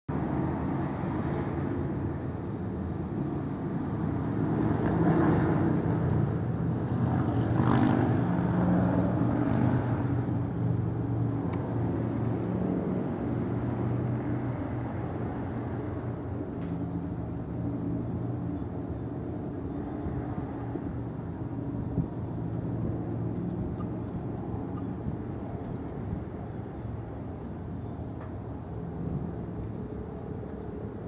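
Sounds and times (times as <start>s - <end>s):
low engine drone: 0.1s - 31.0s.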